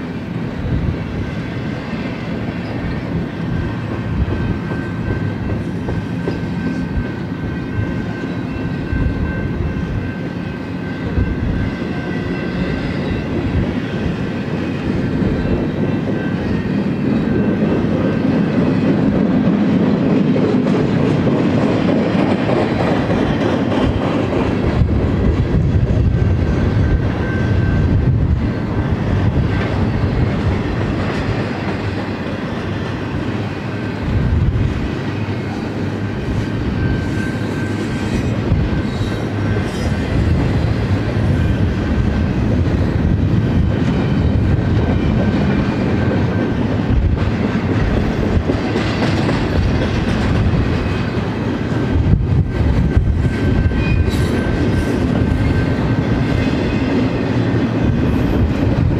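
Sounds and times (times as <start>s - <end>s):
train wheels rolling on rails: 0.0s - 58.9s.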